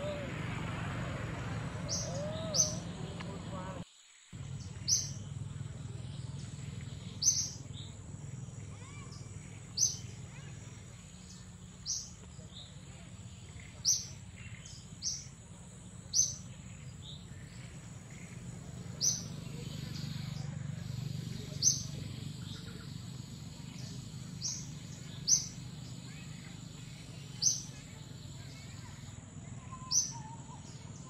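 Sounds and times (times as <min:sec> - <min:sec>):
low forest rumble: 0:00.0 - 0:03.8, 0:04.4 - 0:31.0
bird chirping: 0:01.8 - 0:03.8, 0:04.4 - 0:29.0.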